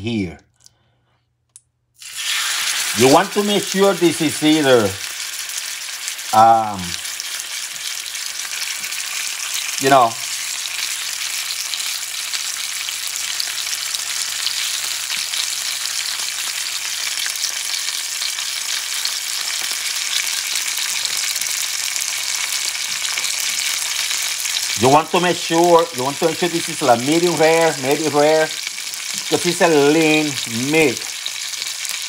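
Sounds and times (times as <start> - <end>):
steak sizzling in oil: 2.0 - 32.0.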